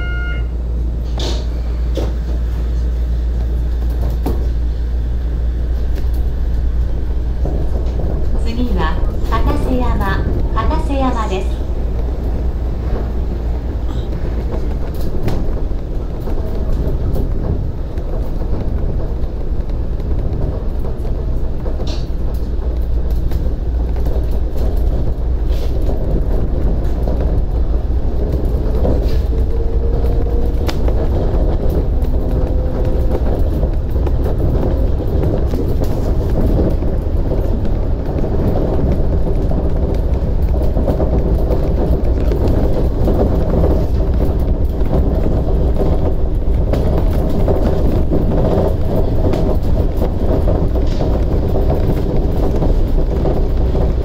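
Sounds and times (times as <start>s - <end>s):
monorail running gear rumble: 0.0s - 54.0s.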